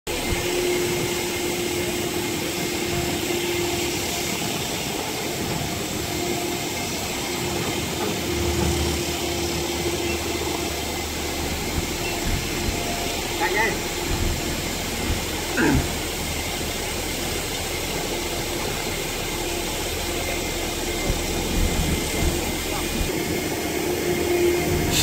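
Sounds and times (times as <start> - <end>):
running engines: 0.1 - 25.0.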